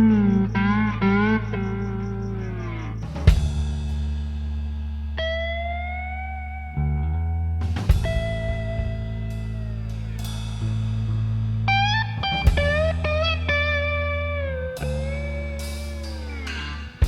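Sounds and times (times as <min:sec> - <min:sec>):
blues guitar: 0:00.0 - 0:03.8, 0:05.0 - 0:17.0
low bass notes: 0:00.0 - 0:17.0.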